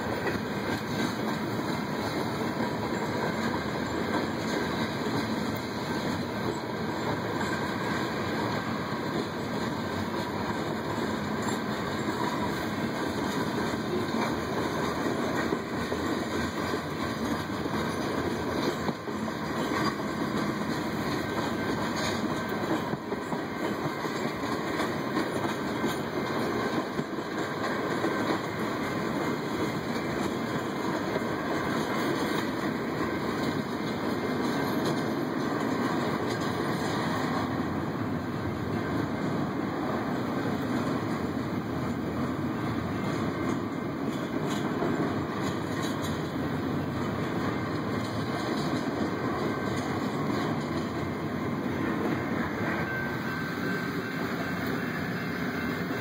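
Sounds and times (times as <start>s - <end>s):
clickety-clack of wheels: 0.0s - 56.0s
steel wheels on rails: 0.0s - 56.0s.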